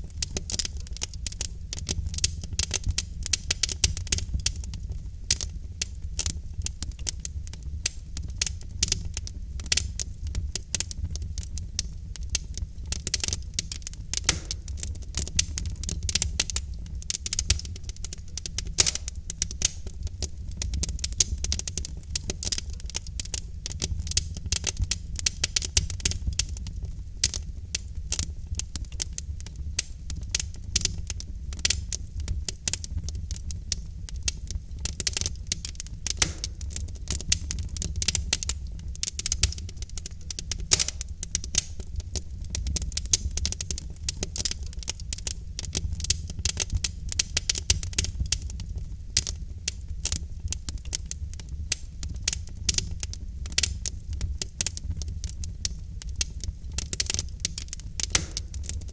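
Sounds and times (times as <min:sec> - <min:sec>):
fire pops: 0:00.0 - 0:58.9
logs crackling in fireplace: 0:00.0 - 0:58.9
low steady rumble: 0:00.0 - 0:58.9.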